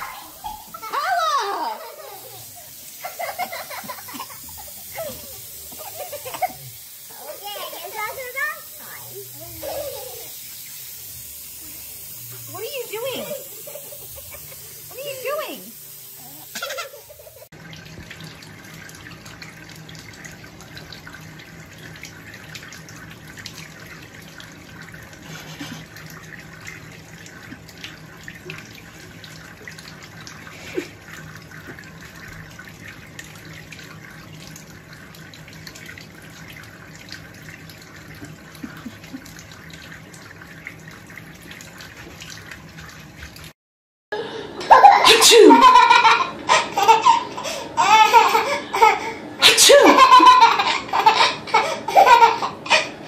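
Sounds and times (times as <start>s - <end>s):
tap water running into bathtub: 0.0s - 43.6s, 44.6s - 53.0s
water splashes and drips: 0.0s - 43.6s.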